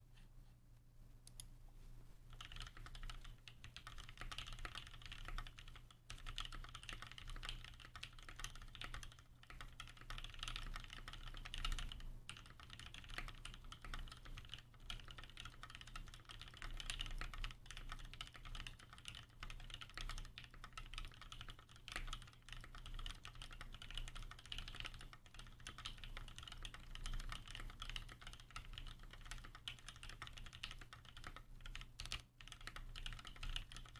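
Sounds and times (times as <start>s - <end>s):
mechanical keyboard typing: 2.3s - 33.9s.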